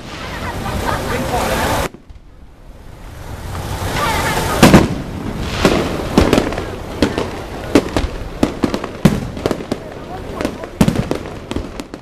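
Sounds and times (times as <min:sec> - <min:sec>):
firework hiss: 0:00.0 - 0:12.0
fireworks bangs and crackles: 0:00.0 - 0:12.0.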